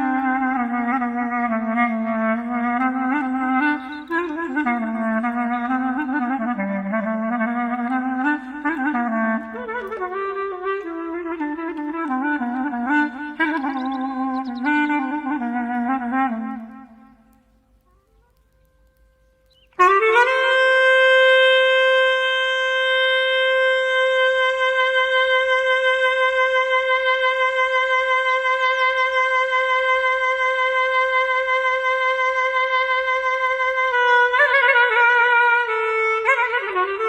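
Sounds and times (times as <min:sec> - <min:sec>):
clarinet playing with vibrato: 0:00.0 - 0:37.0.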